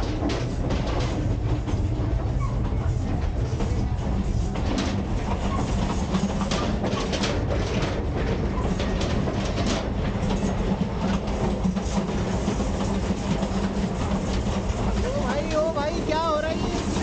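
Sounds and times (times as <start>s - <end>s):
constant hum: 0.0s - 17.0s
sharp clanks and rattles: 0.0s - 17.0s
train wheels rumbling on rail: 0.0s - 17.0s.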